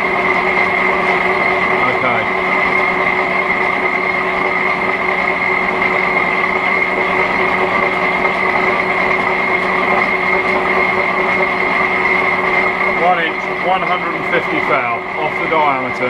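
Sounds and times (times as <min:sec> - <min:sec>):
high whine: 0:00.0 - 0:16.0
metal lathe cutting: 0:00.0 - 0:16.0.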